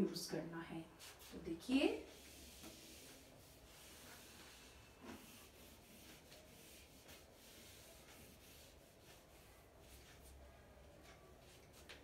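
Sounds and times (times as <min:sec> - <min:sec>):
duster wiping whiteboard: 0:00.9 - 0:12.0.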